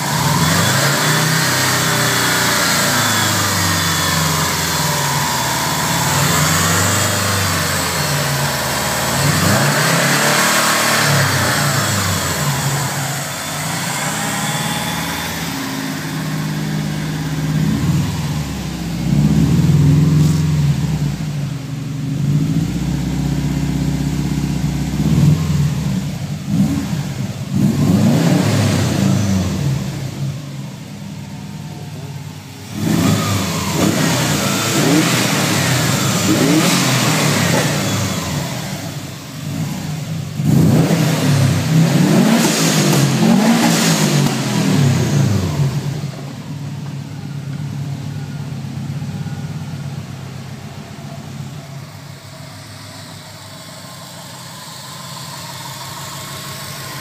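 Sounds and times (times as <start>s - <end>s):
car engine revving and idling: 0.0s - 57.0s.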